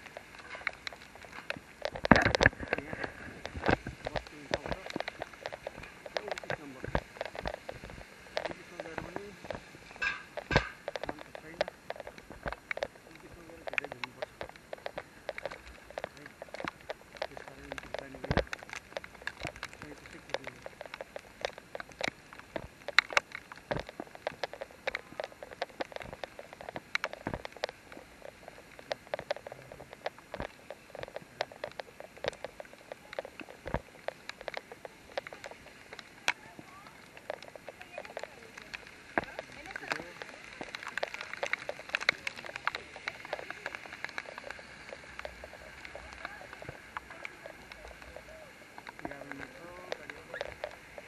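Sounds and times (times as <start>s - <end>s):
faint hiss: 0.0s - 51.0s
raindrops tapping on a surface: 0.0s - 51.0s.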